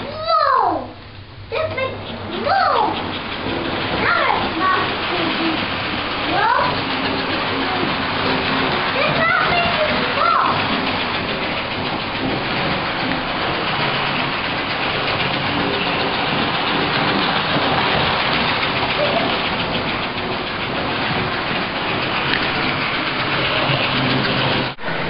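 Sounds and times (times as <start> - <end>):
toy train rattling on metal track: 1.6 - 25.0.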